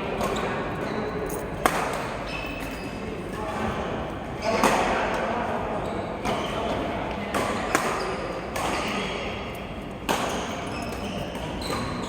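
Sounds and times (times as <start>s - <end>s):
background murmur: 0.0s - 12.0s.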